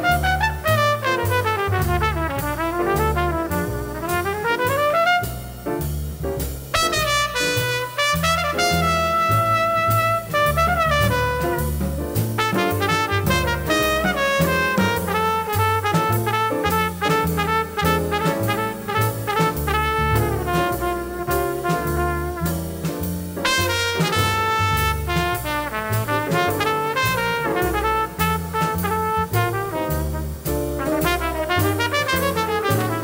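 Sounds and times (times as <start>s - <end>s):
horn playing melody: 0.0s - 5.9s, 6.7s - 33.0s
walking double bass: 0.0s - 33.0s.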